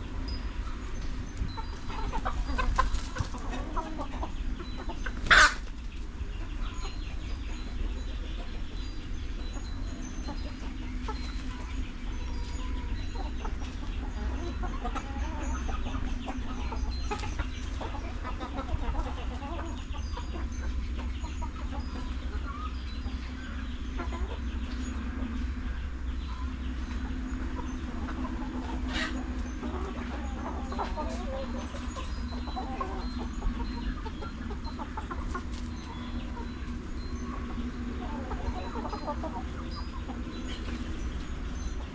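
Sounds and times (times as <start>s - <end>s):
chickens clucking: 0.0s - 41.9s
low hum: 0.0s - 41.9s.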